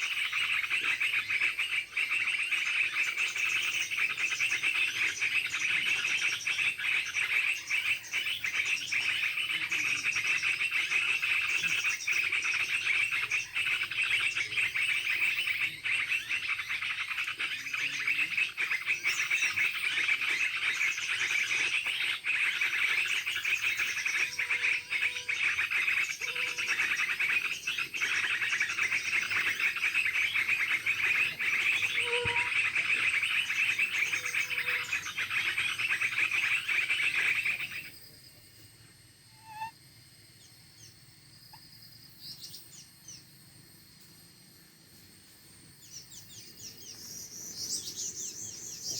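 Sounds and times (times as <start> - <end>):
bird chirps: 0.0 - 38.4, 39.3 - 39.8, 40.4 - 43.3, 45.8 - 48.9
insects and frogs chirping: 0.0 - 48.9.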